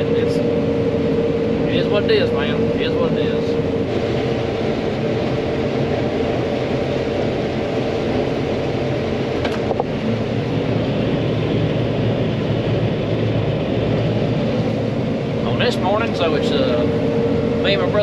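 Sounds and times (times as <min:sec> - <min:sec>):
combine harvester droning: 0:00.0 - 0:18.0.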